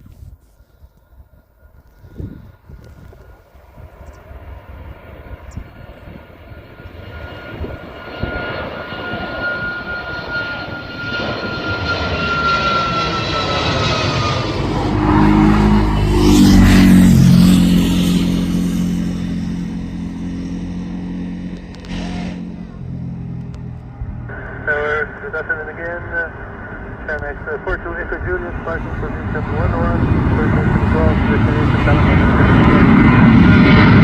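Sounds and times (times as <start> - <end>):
airliner passing overhead: 0.0 - 34.0.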